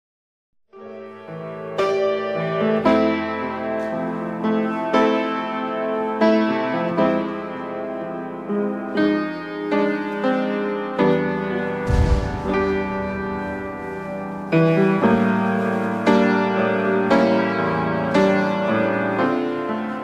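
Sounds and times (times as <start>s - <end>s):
slow piano chords: 0.8s - 20.0s.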